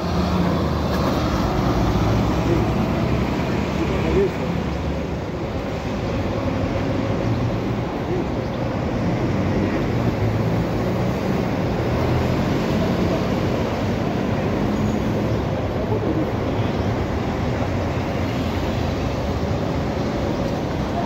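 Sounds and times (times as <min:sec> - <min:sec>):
bus engine humming: 0:00.0 - 0:21.0
street traffic noise: 0:00.0 - 0:21.0.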